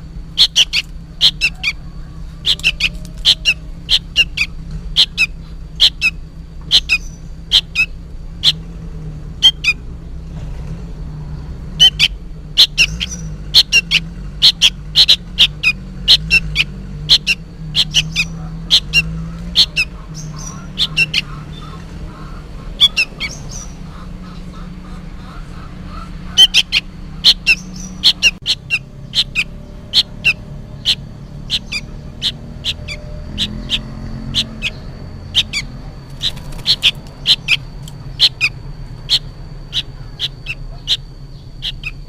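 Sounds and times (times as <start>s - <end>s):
young bird calling: 0.0s - 8.7s, 9.4s - 9.9s, 11.7s - 42.0s
steady low hum: 0.0s - 42.0s.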